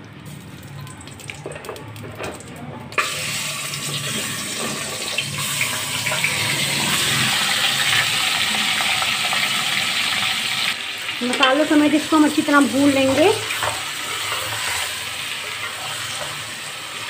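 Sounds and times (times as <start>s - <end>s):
loud sizzle in hot oil: 0.1s - 17.0s.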